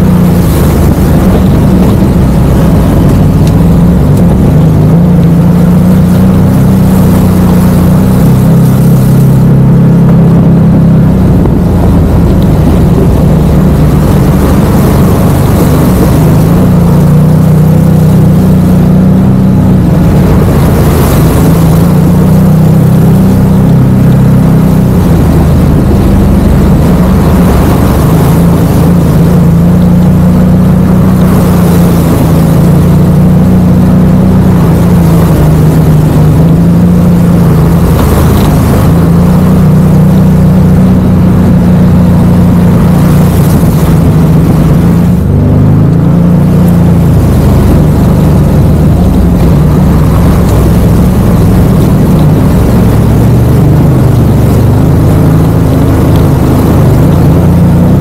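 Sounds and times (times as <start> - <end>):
utility vehicle engine running: 0.0 - 58.0.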